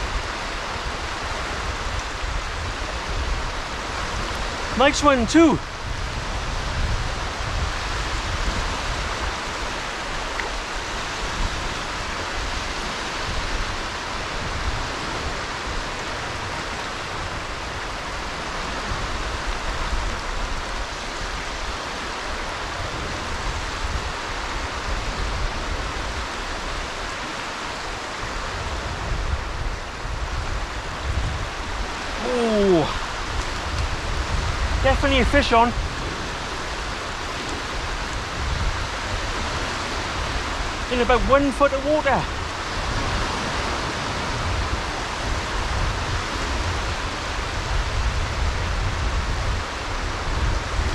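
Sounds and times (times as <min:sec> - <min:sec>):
rushing wind hiss: 0:00.0 - 0:50.9
small waves washing ashore: 0:00.0 - 0:50.9
wind buffeting microphone: 0:00.0 - 0:50.9.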